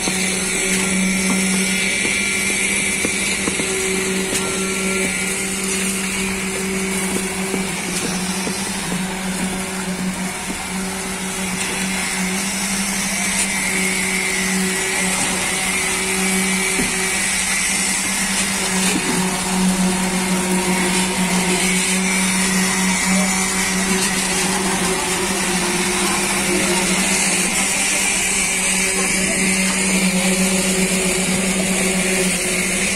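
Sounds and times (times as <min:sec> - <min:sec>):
concrete vibrators humming: 0:00.0 - 0:32.9.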